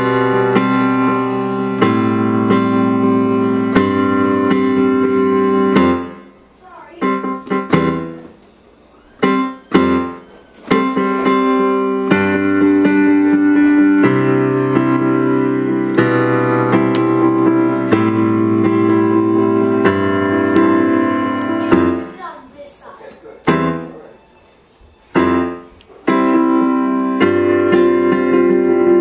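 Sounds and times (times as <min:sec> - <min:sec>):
digital piano chords: 0:00.0 - 0:24.3, 0:25.0 - 0:29.0.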